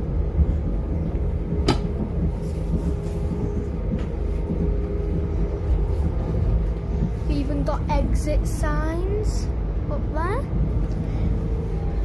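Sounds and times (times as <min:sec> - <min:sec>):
train diesel engine rumbling: 0:00.0 - 0:12.0.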